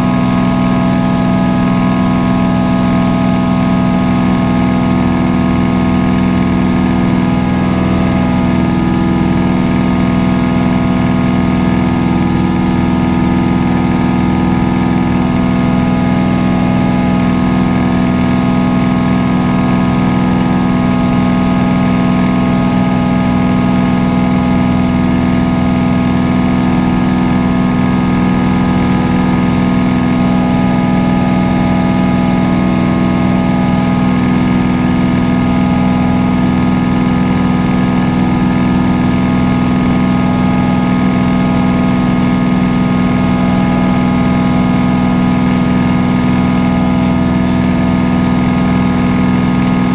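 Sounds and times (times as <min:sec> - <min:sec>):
propeller aircraft engine drone: 0:00.0 - 0:49.9.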